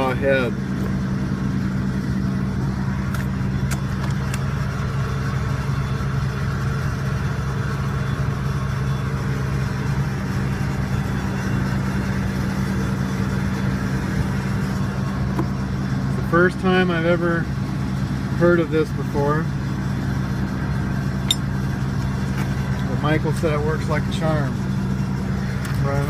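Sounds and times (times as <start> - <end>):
heavy machine engine idling: 0.0 - 26.0.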